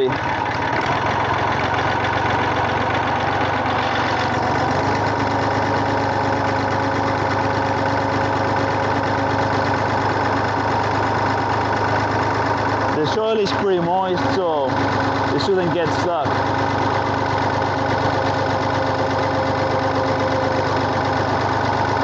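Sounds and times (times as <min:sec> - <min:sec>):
auger boring into ground: 0:00.0 - 0:22.0
tractor engine running under load: 0:00.0 - 0:22.0.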